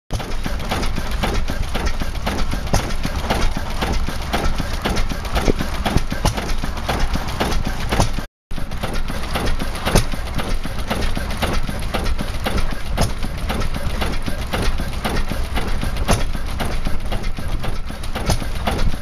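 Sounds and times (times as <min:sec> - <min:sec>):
diesel engine knocking: 0:00.1 - 0:19.0.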